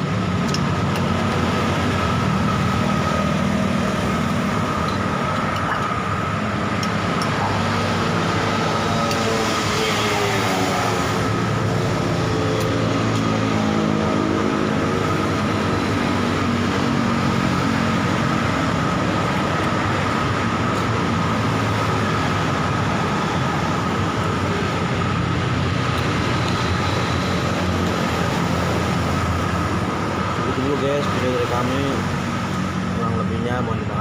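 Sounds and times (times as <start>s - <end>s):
constant high whine: 0.0s - 34.0s
road traffic engines humming: 0.0s - 34.0s.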